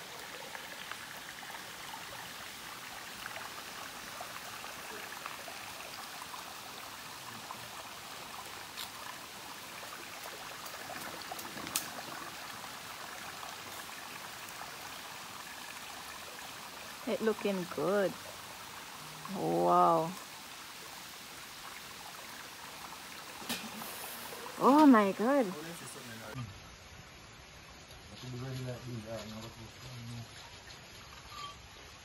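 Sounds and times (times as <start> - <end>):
stream water over rock: 0.0 - 32.0.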